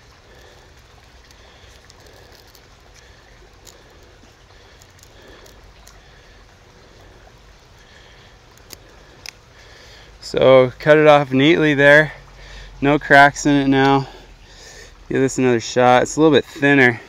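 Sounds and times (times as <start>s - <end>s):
creek trickling: 0.0s - 17.0s.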